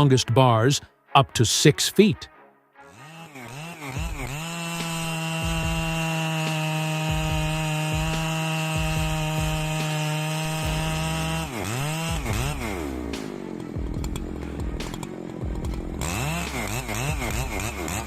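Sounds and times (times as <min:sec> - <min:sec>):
chainsaw engine revving: 0:02.9 - 0:18.0.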